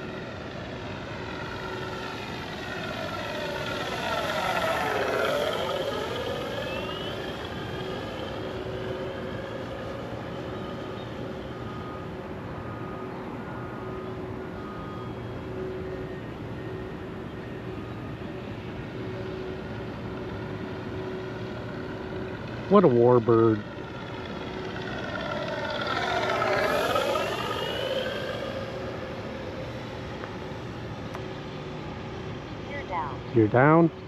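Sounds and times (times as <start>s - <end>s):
model plane propeller drone: 0.0s - 34.0s.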